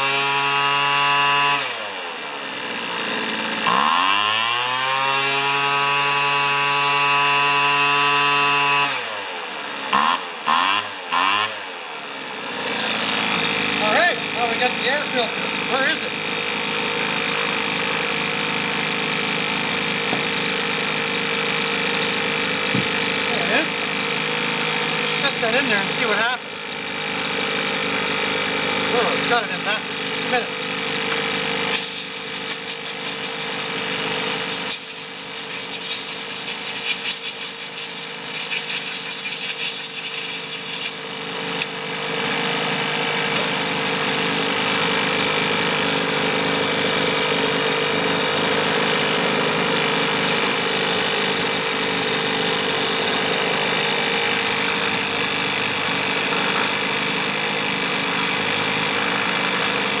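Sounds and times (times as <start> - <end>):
leaf blower engine running: 0.0 - 60.0.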